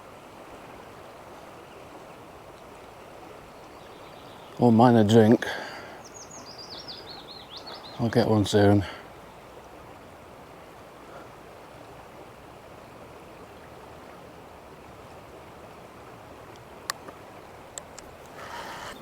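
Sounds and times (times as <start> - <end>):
river flowing over its bed: 0.0 - 19.0.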